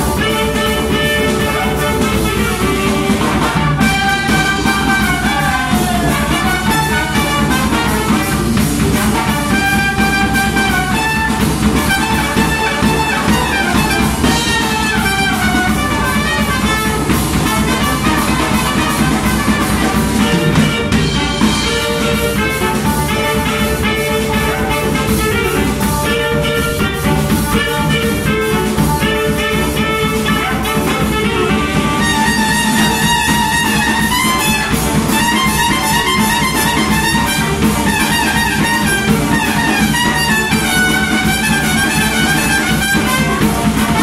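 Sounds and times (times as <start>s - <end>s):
drum kit beat: 0.0s - 44.0s
saxophones: 0.0s - 44.0s
trombone: 0.0s - 44.0s
trumpet: 0.0s - 44.0s
tuba bass line: 0.0s - 44.0s.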